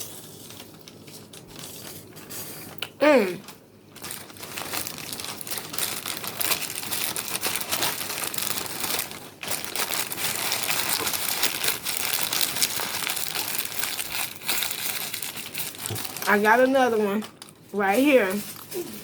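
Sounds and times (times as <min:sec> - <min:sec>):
food wrapping crinkling: 0:00.0 - 0:02.8, 0:03.4 - 0:19.0.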